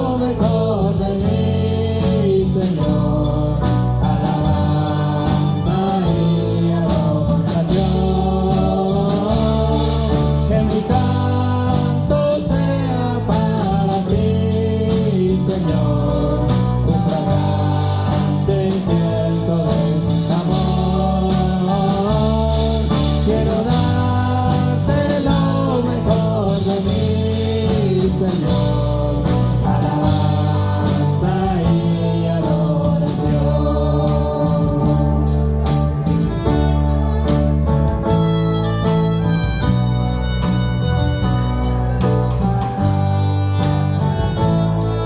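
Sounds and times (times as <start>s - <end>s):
band with sustained bass: 0.0s - 45.0s.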